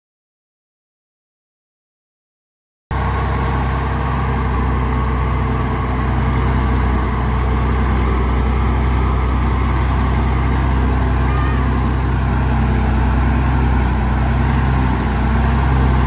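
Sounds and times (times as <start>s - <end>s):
heavy diesel engine humming: 2.9s - 16.0s.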